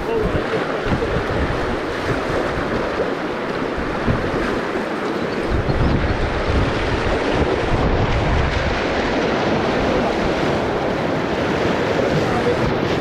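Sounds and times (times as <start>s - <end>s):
rushing whitewater rapids: 0.0s - 13.0s
wind buffeting microphone: 0.0s - 13.0s.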